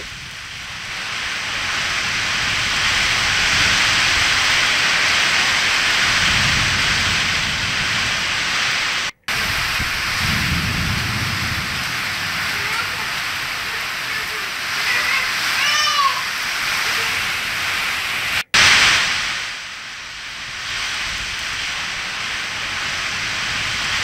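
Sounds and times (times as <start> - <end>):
wind rumbling on microphone: 0.0 - 15.6, 16.3 - 24.0
heavy rain pouring: 0.0 - 24.0.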